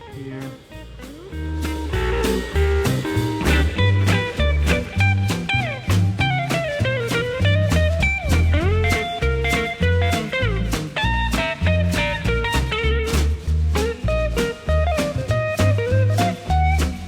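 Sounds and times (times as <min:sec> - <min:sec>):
bluesy electric guitar music: 0:00.0 - 0:17.0.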